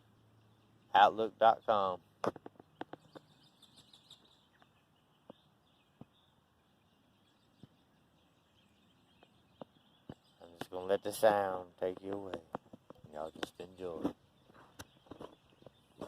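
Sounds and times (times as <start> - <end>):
faint bird chirps: 0.0 - 12.0, 12.9 - 16.0.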